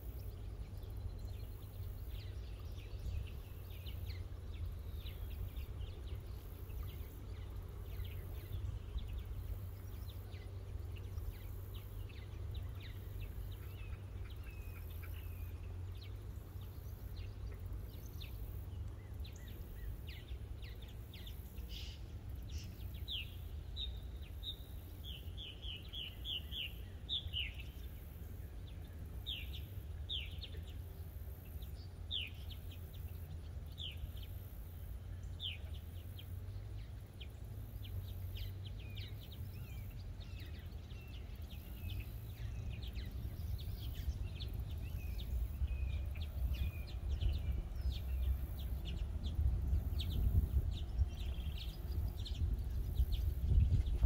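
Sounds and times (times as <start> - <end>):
small birds chirping: 0.0 - 54.0
steady low rumble: 0.0 - 54.0.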